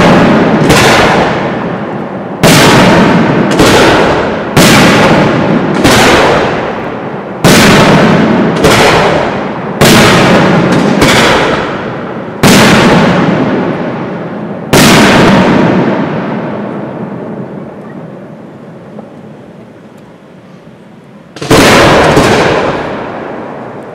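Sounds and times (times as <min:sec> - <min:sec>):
firework shells booming: 0:00.0 - 0:18.2, 0:21.3 - 0:23.9
echo of firework bangs: 0:00.0 - 0:19.4, 0:21.3 - 0:23.9.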